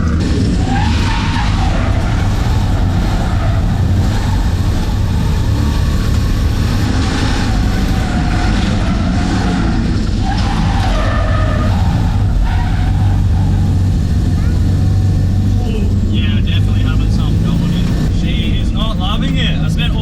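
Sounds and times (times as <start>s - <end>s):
car engine running steadily: 0.0s - 20.0s.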